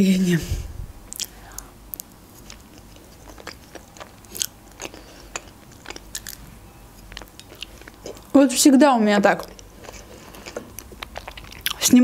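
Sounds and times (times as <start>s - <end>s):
person chewing with wet clicks: 1.1s - 8.4s, 9.3s - 12.0s.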